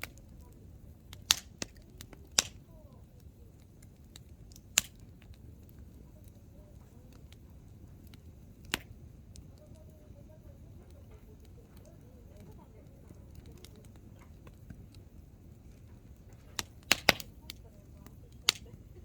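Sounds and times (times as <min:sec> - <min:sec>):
campfire crackling and popping: 0:00.0 - 0:19.0
low background rumble: 0:00.0 - 0:19.0.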